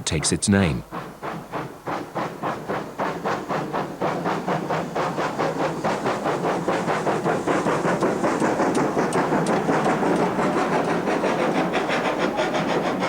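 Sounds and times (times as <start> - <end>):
steam locomotive exhaust beats: 0.0 - 13.0.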